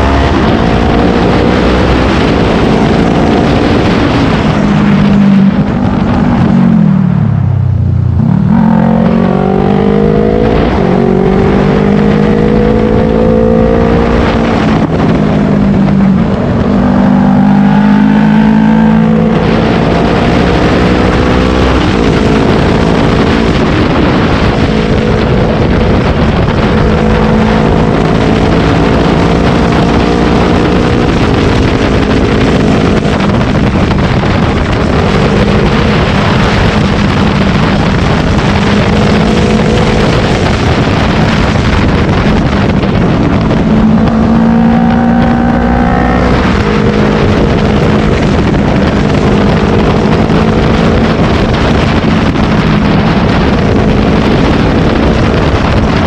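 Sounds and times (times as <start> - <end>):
motorcycle engine running hard: 0.0 - 56.0
wind rush on microphone: 0.0 - 56.0.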